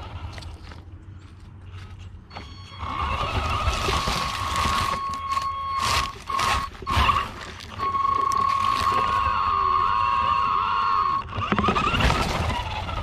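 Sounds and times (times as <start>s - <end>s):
toy truck motor whining: 0.0s - 0.8s, 2.3s - 13.0s
camera rumble: 0.0s - 13.0s
tyres crunching: 0.0s - 13.0s.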